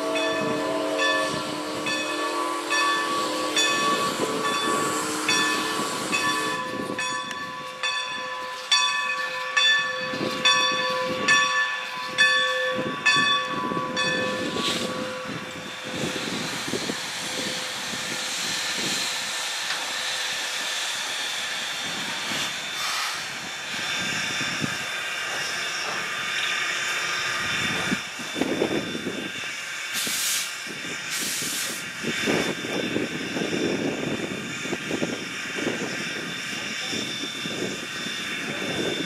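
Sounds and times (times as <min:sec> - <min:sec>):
steam hissing: 0:00.0 - 0:07.0, 0:14.2 - 0:39.0
steam locomotive rolling in: 0:00.0 - 0:39.0.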